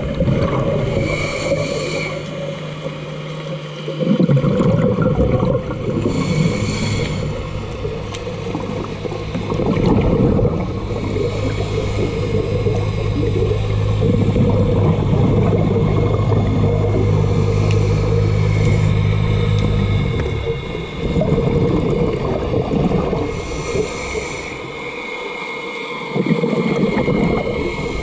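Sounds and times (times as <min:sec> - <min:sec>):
gurgling water: 0:00.0 - 0:28.0
low motor hum: 0:00.0 - 0:28.0
underwater bubbles: 0:00.0 - 0:28.0.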